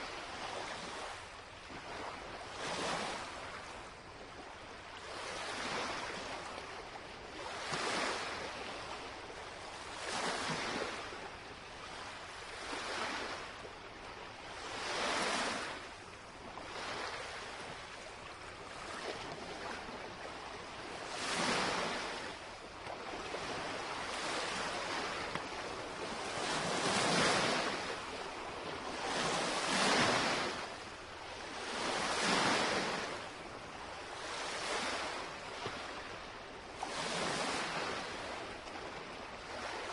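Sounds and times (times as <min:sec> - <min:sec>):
lake waves lapping on shore: 0:00.0 - 0:39.9.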